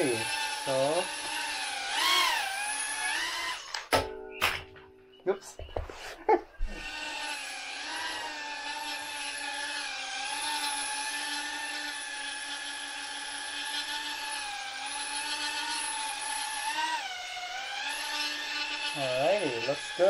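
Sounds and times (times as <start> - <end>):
drone motors whining: 0.0 - 3.9, 6.6 - 20.0.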